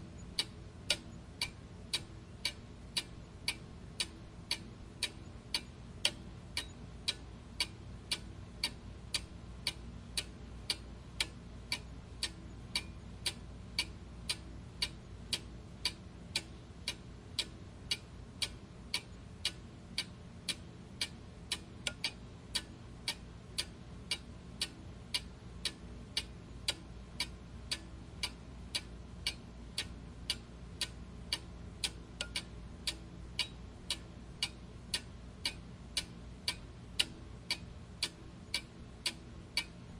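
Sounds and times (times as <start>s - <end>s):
faint low hum: 0.0s - 39.9s
clock ticking: 0.4s - 39.8s.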